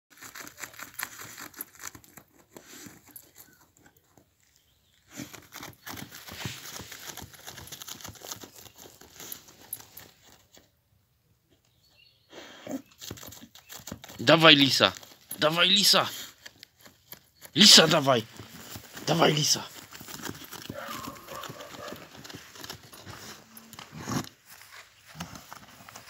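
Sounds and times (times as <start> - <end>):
dog paws scratching soil: 0.1 - 26.0.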